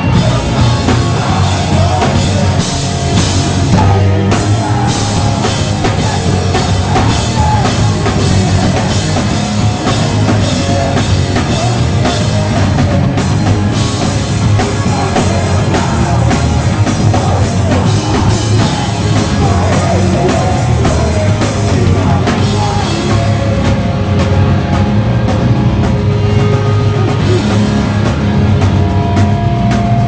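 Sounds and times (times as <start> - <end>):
faint singing: 0.0 - 24.3
pop-punk band music: 0.0 - 30.0.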